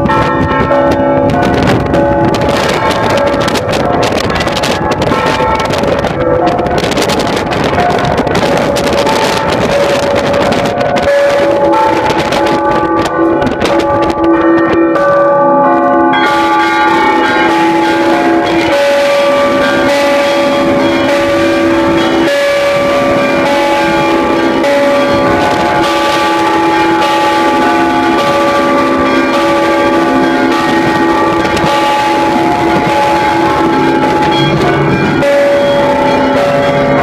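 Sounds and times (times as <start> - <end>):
church bells pealing: 0.0 - 37.0.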